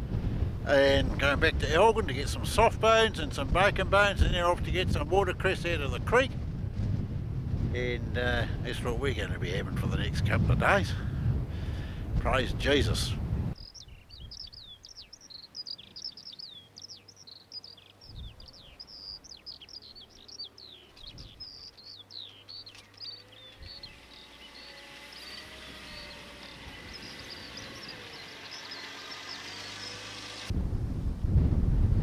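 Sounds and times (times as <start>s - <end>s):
small birds chirping: 0.0s - 30.5s.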